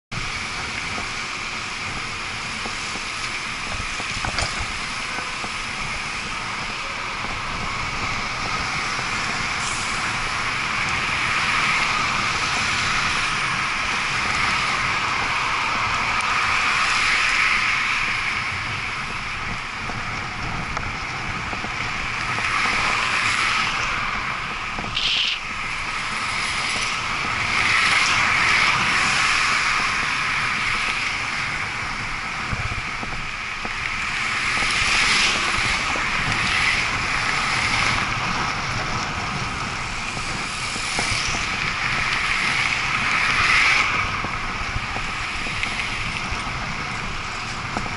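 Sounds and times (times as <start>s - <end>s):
cars and buses passing: 0.1s - 47.9s
city traffic noise: 0.1s - 47.9s.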